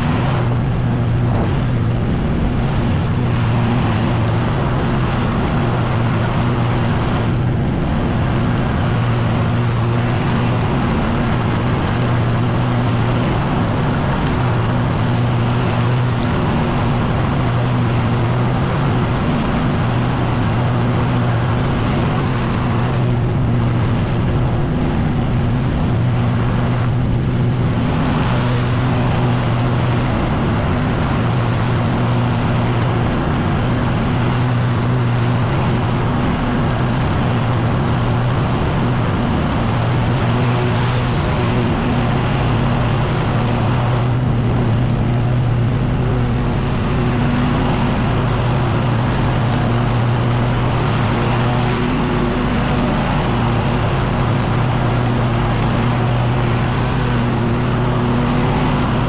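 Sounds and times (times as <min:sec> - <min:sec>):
leaf blower engine drone: 0:00.0 - 0:59.0
rush of air: 0:00.0 - 0:59.0.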